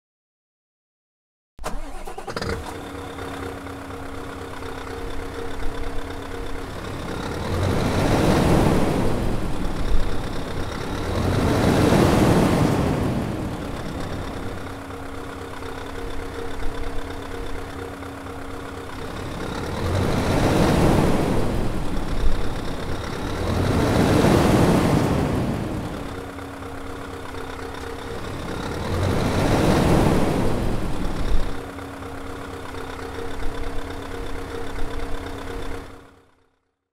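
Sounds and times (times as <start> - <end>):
diesel engine revving: 1.6 - 36.2
diesel engine idling: 1.6 - 36.6.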